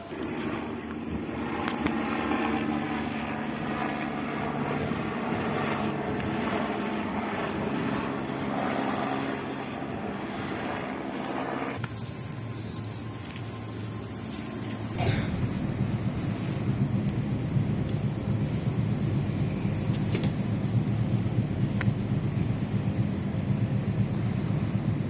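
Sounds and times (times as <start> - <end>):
low motor hum: 0.0 - 25.0
train running drone: 0.0 - 25.0.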